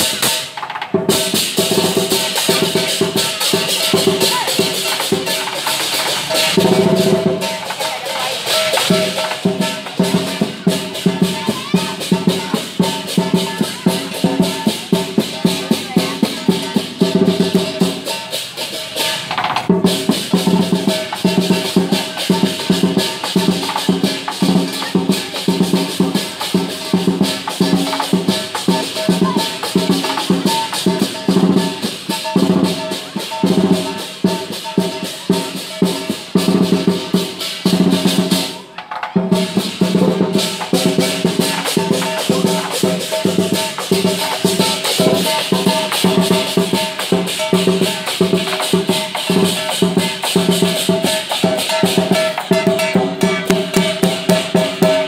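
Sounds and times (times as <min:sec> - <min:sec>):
clashing cymbals: 0:00.0 - 0:55.0
large drum beaten fast: 0:00.0 - 0:55.0.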